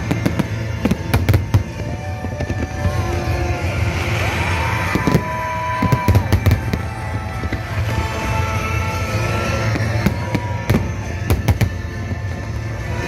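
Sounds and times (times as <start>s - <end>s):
fireworks bangs and crackles: 0.0s - 13.0s
music: 0.0s - 13.0s.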